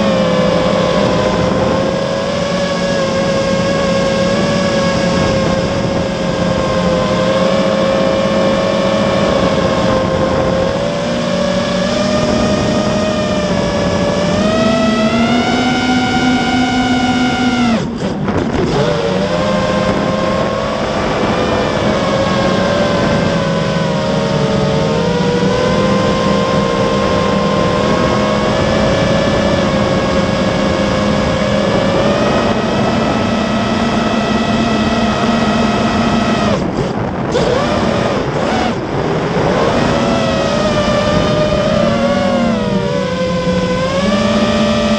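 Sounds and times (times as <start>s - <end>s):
drone motors whining: 0.0s - 44.9s
wind rush on microphone: 0.0s - 44.9s.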